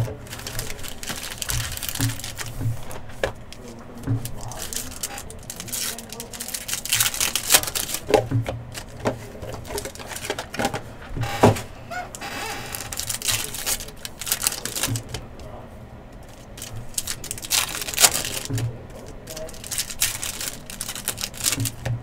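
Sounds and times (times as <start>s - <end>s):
rustling: 0.0s - 15.6s, 16.2s - 22.0s.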